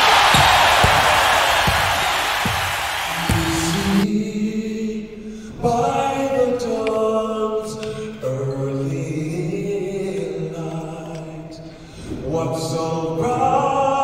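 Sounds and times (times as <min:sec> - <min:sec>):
slow vocal music with held notes: 0:02.4 - 0:14.0.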